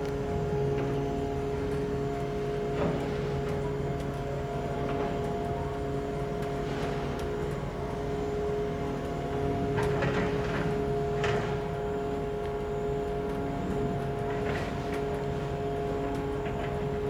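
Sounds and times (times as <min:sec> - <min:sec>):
ship machinery humming: 0:00.0 - 0:17.0.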